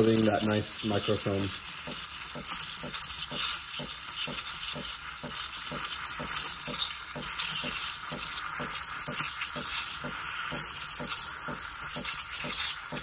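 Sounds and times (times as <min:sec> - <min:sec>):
steam wand hissing into milk: 0:00.0 - 0:13.0.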